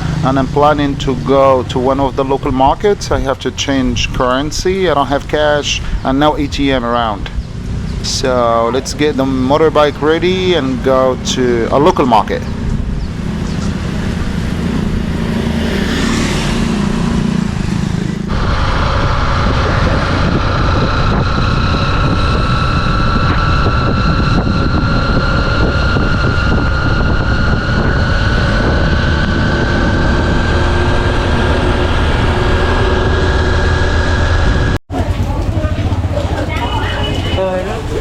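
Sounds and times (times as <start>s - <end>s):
steady rising whine: 0.0s - 34.8s
road and wind noise: 0.0s - 38.0s
motorbike engine running: 7.4s - 38.0s.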